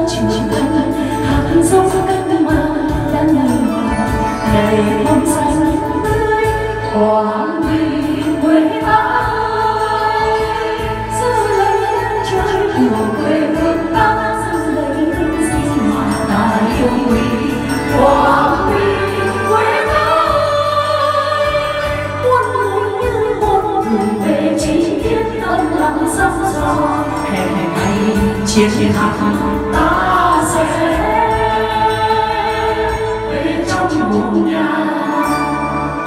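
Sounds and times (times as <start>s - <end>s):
music backing track: 0.0s - 36.0s
woman singing into a microphone: 0.0s - 36.0s.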